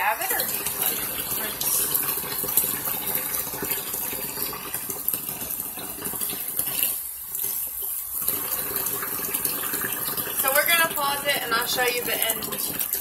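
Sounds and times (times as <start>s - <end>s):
tap water running: 0.0s - 13.0s
water splashing from rinsing: 0.0s - 13.0s.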